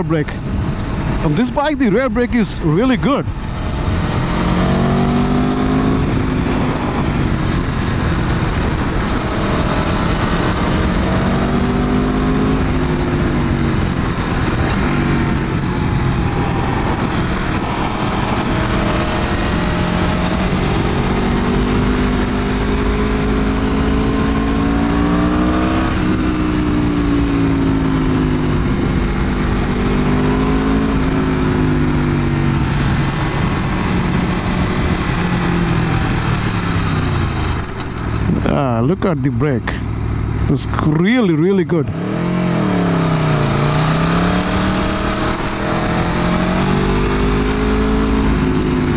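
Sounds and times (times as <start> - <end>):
wind rushing: 0.0 - 40.8, 41.8 - 48.9
motorcycle engine revving: 0.7 - 48.9.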